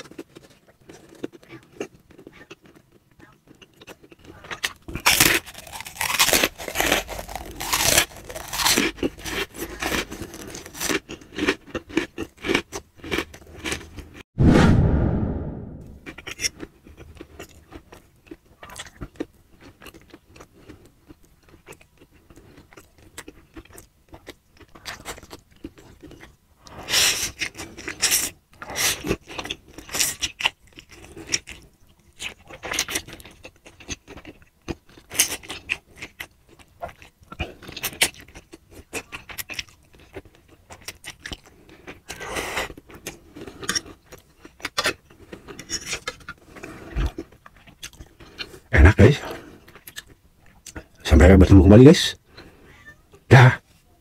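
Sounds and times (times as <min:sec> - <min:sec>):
chewing: 0:00.0 - 0:14.2, 0:16.1 - 0:51.0.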